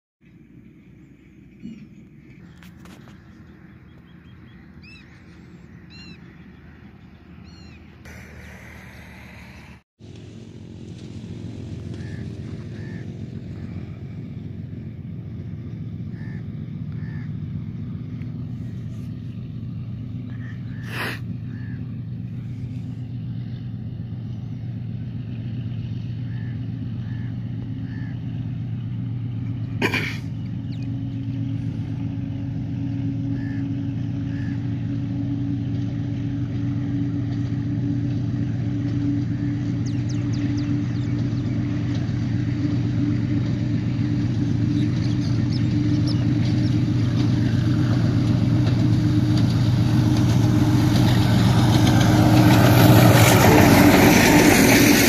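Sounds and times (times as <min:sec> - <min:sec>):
diesel locomotive engine drone: 0:00.2 - 0:55.0.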